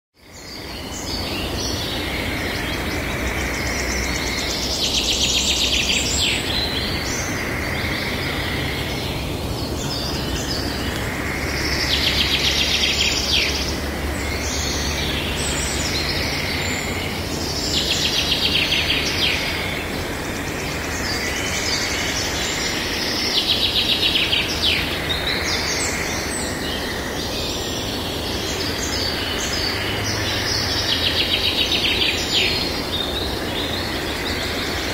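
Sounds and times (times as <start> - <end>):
birds singing: 0.2 - 34.9
steady background noise: 0.2 - 34.9.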